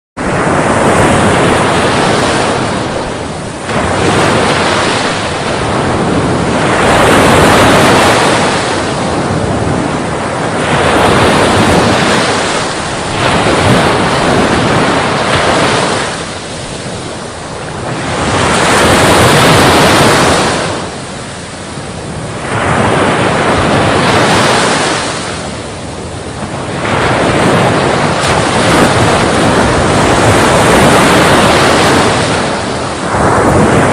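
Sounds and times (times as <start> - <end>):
surf waves breaking: 0.2 - 33.9.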